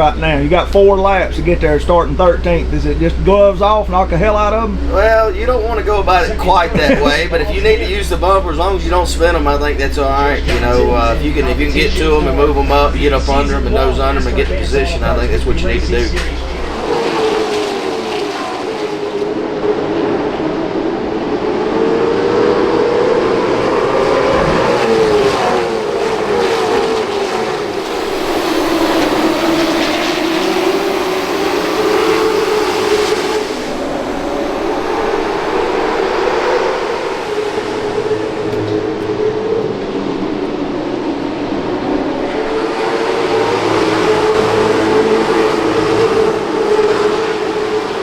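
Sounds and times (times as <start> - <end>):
race car engines: 0.0 - 48.0.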